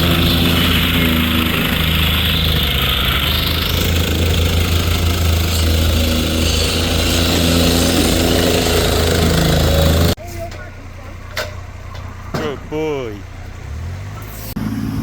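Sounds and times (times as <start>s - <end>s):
machinery engine low hum: 0.0s - 15.0s.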